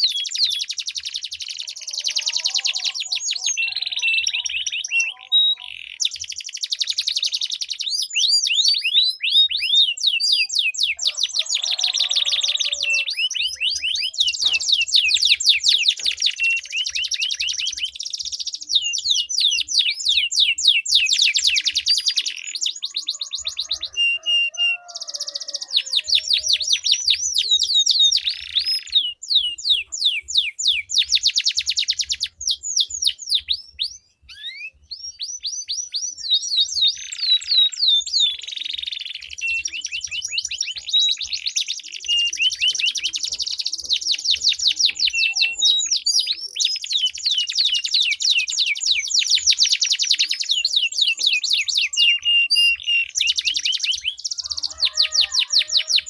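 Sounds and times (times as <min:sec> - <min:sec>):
canaries singing trills: 0:00.0 - 0:56.0.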